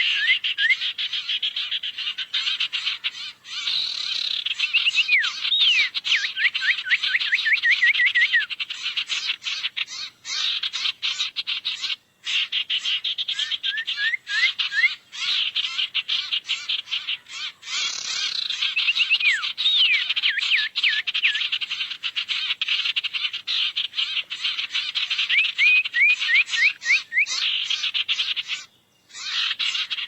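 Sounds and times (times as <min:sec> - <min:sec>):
birds chattering chirps: 0:00.0 - 0:30.0.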